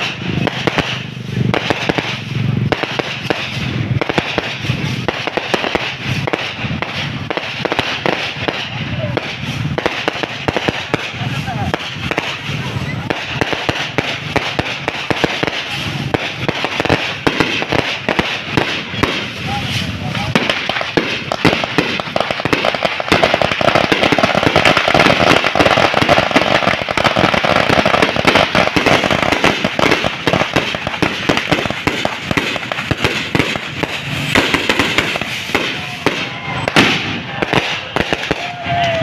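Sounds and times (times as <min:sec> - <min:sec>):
fireworks cracking and popping: 0:00.0 - 0:39.0.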